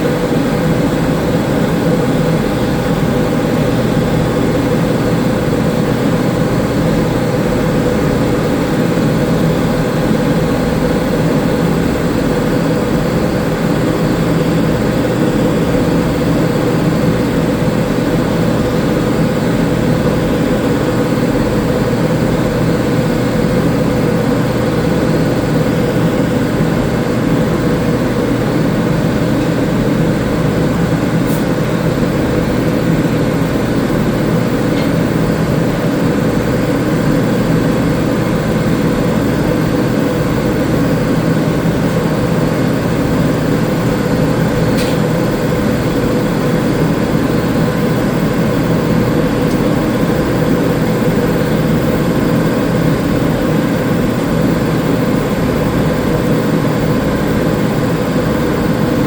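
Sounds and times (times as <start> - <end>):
machine drone: 0.0 - 59.0.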